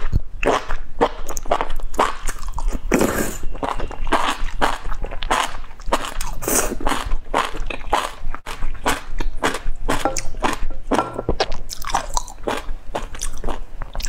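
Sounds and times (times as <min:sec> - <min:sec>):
wet chewing: 0:00.0 - 0:14.0.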